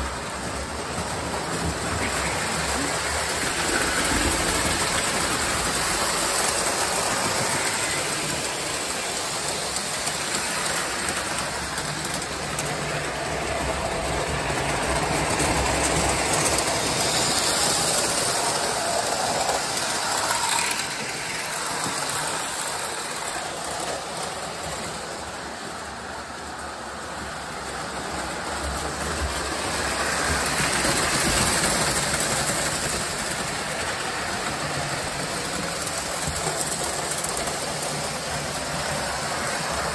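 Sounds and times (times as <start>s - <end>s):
model trains rattling on metal track: 0.0s - 39.9s.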